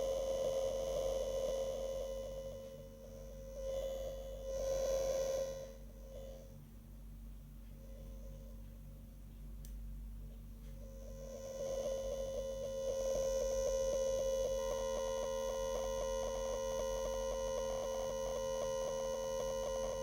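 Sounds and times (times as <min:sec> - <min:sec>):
gimbal motor humming and ticking: 0:00.0 - 0:06.7, 0:07.5 - 0:20.0.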